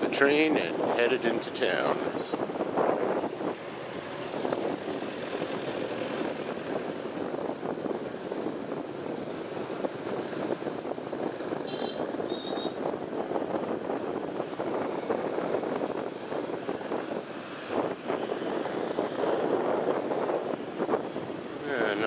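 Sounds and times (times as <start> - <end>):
motorbike traffic: 0.0 - 22.0.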